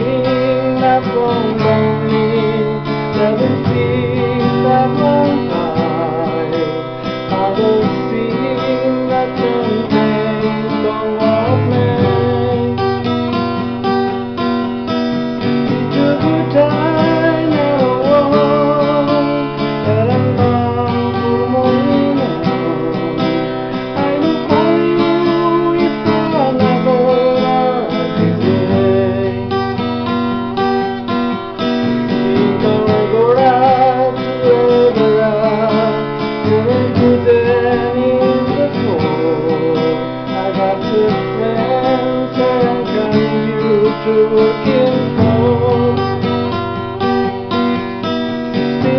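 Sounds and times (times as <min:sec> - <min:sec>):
strummed acoustic guitar: 0:00.0 - 0:48.9.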